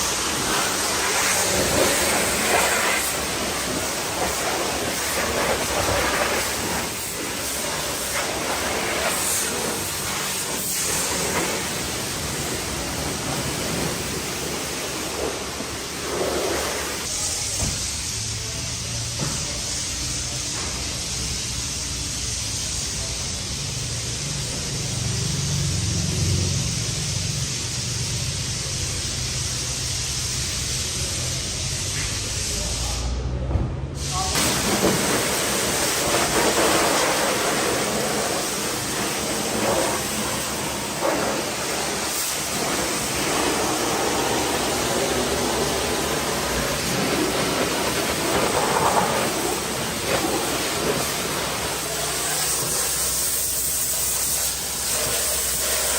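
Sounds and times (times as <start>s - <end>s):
pressure washer spraying water: 0.0s - 33.3s, 34.0s - 55.9s.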